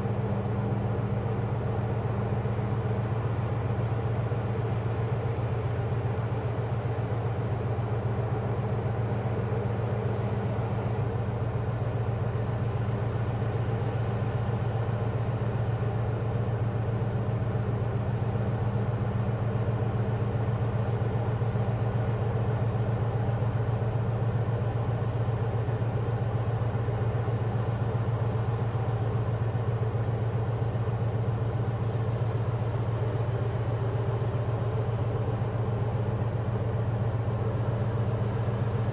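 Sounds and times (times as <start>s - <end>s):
ship engine drone: 0.0s - 38.9s.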